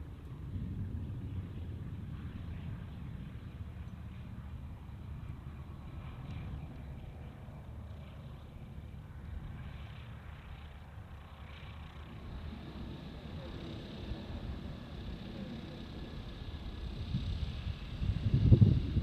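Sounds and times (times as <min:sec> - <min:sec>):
distant engine running: 0:00.0 - 0:19.0
faint pitched hum: 0:00.0 - 0:19.0
wind rumble on microphone: 0:00.0 - 0:19.0.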